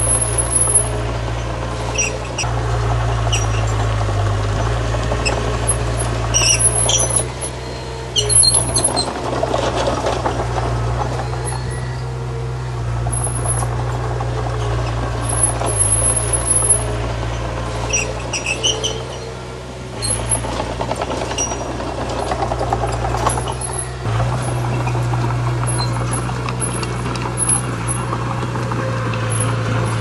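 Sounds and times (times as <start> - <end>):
diesel engine running under load: 0.0 - 30.0
high-pitched squeals: 0.0 - 30.0.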